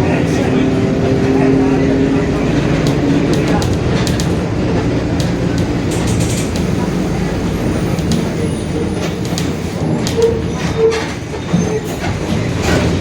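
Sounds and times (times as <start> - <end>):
bus engine rumble: 0.0 - 13.0
body rattles and clicks: 2.5 - 13.0.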